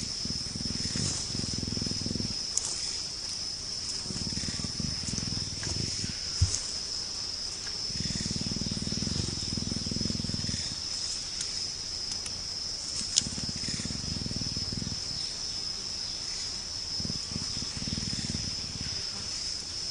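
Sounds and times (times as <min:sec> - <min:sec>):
low rumbling: 0:00.0 - 0:19.1.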